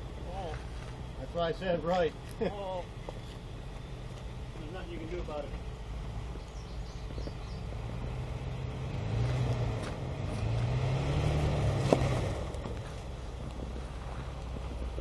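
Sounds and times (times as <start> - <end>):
engine pulling under load: 2.2 - 15.0.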